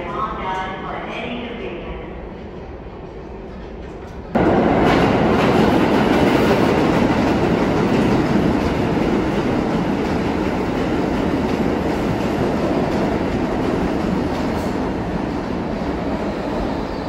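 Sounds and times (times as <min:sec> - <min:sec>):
subway train rail noise: 0:00.0 - 0:17.0.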